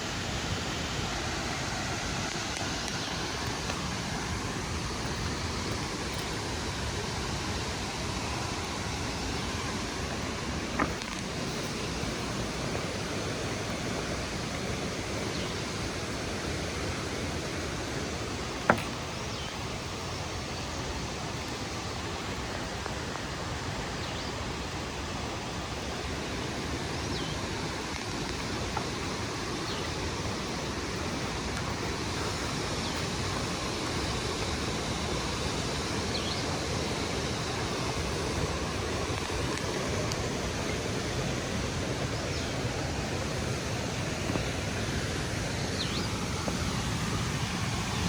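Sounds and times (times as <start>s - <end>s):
falling water rushing: 0.0s - 48.0s.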